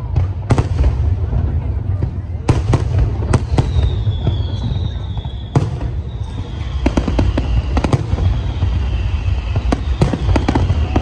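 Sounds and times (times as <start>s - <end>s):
fireworks crackling bangs: 0.0s - 11.0s.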